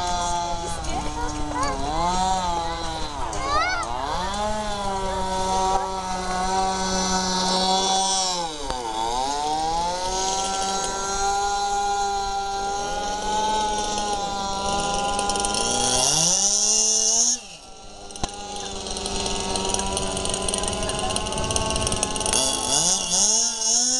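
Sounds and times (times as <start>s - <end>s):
small two-stroke engine revving: 0.0s - 23.9s.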